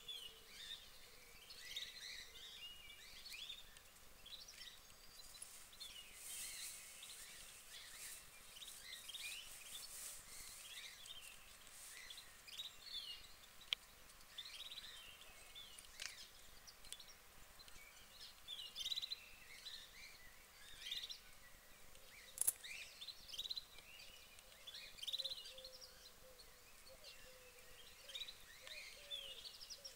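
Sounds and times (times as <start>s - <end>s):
faint songbirds chirping: 0.0s - 29.9s.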